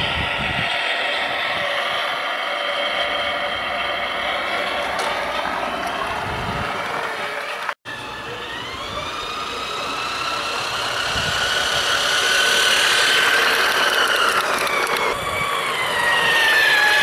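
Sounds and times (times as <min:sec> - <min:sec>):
toy train motor whine: 0:00.0 - 0:17.0.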